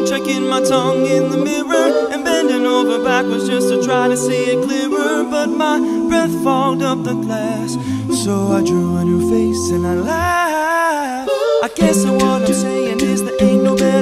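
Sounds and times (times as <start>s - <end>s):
a cappella group singing harmonies: 0.0s - 14.0s.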